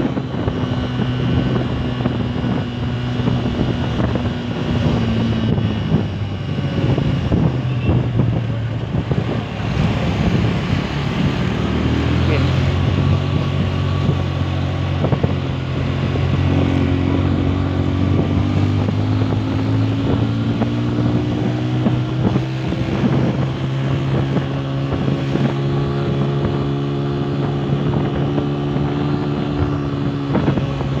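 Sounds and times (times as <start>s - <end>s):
motorcycle engine running: 0.0s - 31.0s
wind on microphone: 0.0s - 31.0s.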